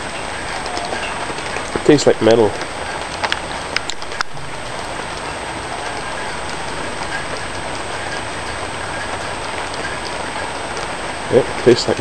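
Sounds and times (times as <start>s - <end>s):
heavy rain falling: 0.0s - 12.0s
sharp ticks of drops: 0.0s - 12.0s.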